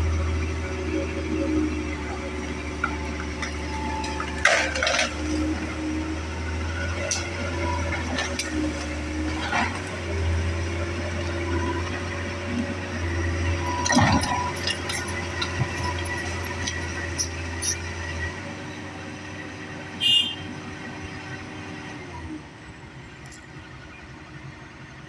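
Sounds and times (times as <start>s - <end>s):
excavator engine droning: 0.0s - 25.0s.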